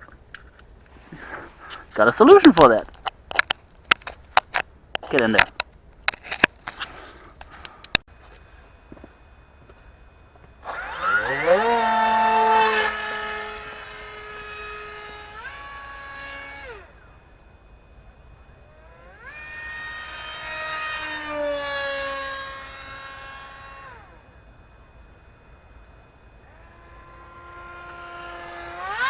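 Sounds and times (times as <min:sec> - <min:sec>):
quadcopter motors whining: 0:00.0 - 0:04.2, 0:06.4 - 0:29.0.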